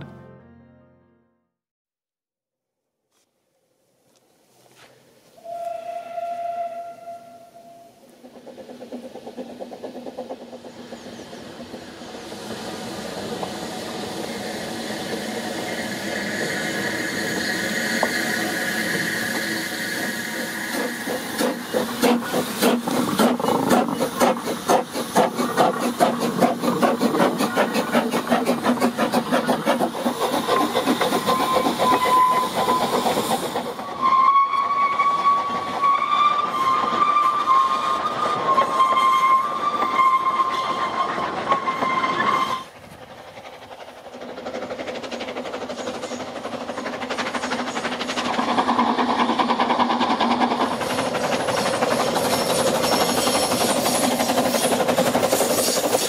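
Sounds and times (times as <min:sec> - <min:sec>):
steam hissing: 0:05.4 - 0:35.8, 0:36.4 - 0:56.0
steam locomotive exhaust beats: 0:05.4 - 0:56.0
train wheel clatter: 0:07.7 - 0:56.0.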